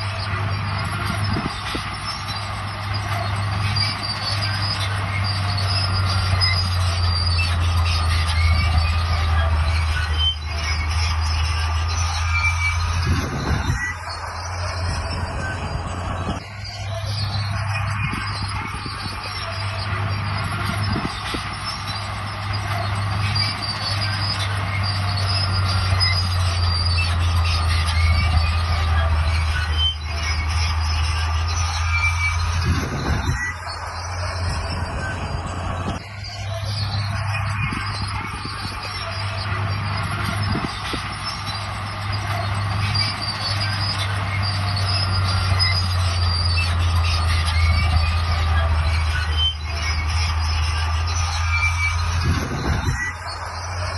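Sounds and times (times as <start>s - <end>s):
diesel engine humming: 0.0s - 53.9s
steel tracks squeaking: 0.0s - 53.9s.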